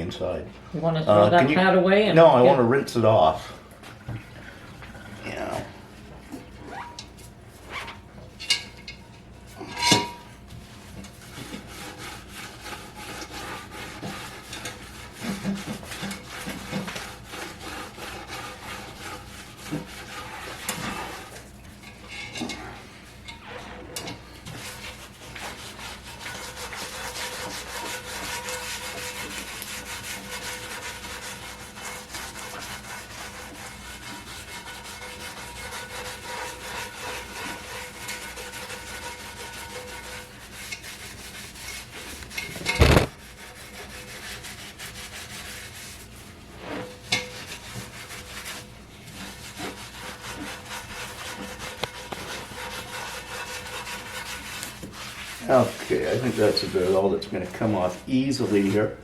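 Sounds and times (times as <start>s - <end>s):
scrubbing pad scraping iron: 9.5s - 59.0s.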